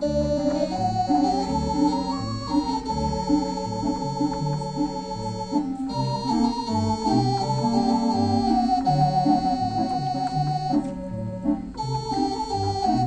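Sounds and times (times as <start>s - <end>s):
theatre organ playing: 0.0s - 13.0s.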